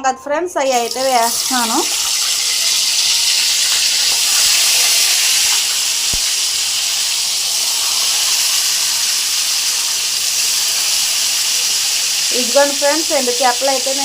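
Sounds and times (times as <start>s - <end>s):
fish sizzling in hot oil: 0.8s - 14.0s.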